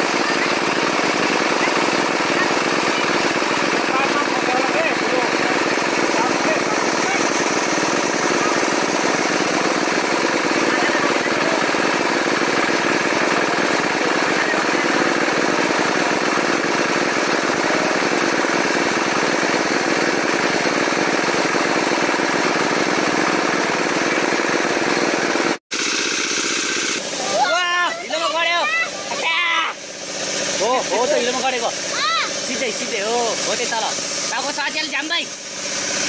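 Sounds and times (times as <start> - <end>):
small engine running with rattle: 0.0 - 36.0.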